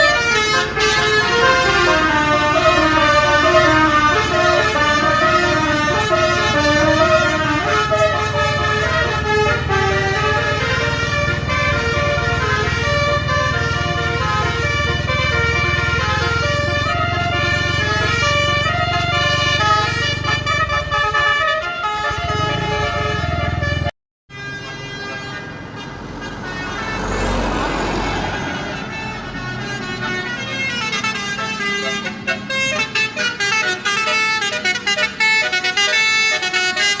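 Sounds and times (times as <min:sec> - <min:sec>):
bus engine running: 0:00.0 - 0:37.0
musical air horn playing a tune: 0:00.0 - 0:37.0
road noise: 0:00.0 - 0:37.0.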